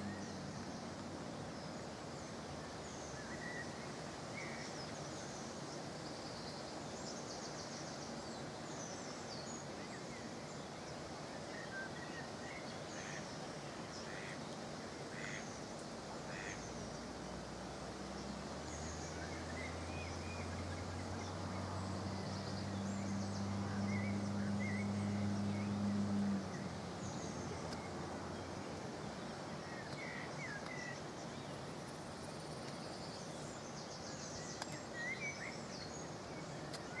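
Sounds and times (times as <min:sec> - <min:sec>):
river water flowing: 0:00.0 - 0:37.0
small birds chirping: 0:00.0 - 0:37.0.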